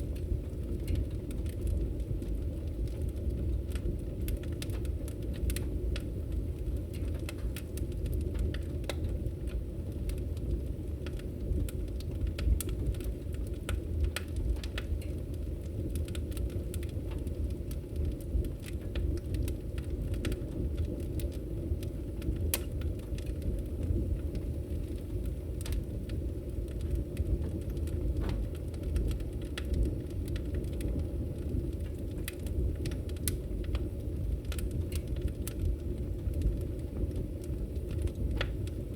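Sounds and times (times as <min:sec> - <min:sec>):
flames rumbling: 0:00.0 - 0:38.9
wood crackles and pops: 0:00.0 - 0:38.9.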